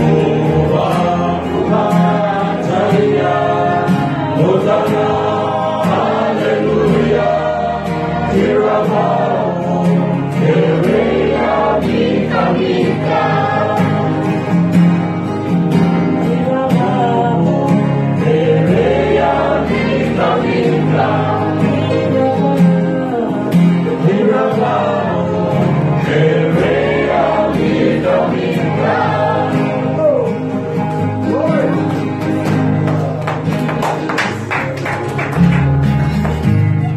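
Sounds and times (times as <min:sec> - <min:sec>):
choir singing: 0:00.0 - 0:15.0, 0:15.8 - 0:31.1.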